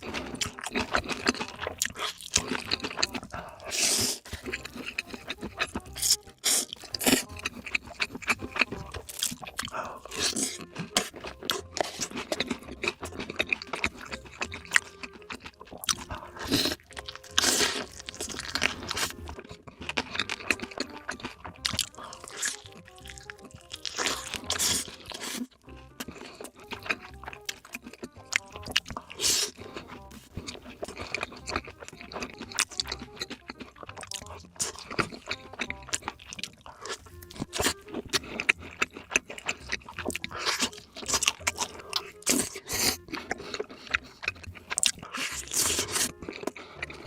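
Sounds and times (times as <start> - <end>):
crunchy bites and chewing: 0.0 - 47.0
music: 0.0 - 47.0.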